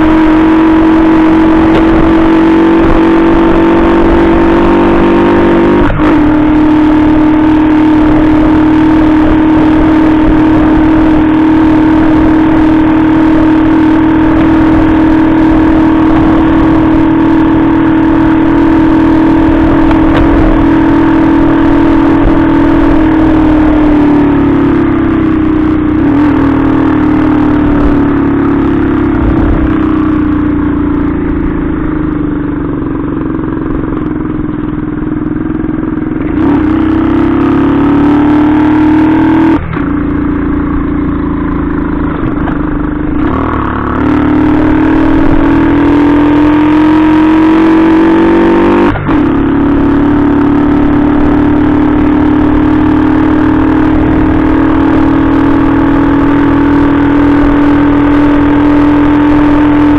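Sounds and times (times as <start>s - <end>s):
moped engine running: 0.0s - 59.9s.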